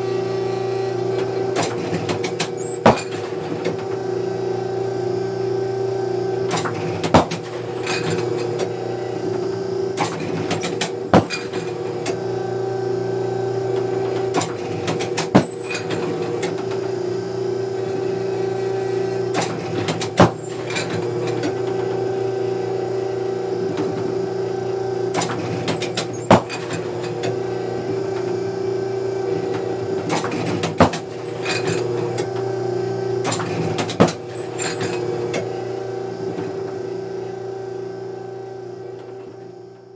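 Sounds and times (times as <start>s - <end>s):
electric motor hum: 0.0s - 39.9s.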